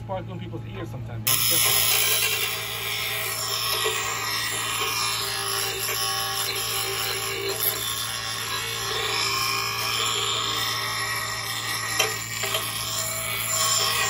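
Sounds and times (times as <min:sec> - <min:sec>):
blade grinding on wheel: 0:01.3 - 0:14.0
grinder motor hum: 0:01.3 - 0:14.0.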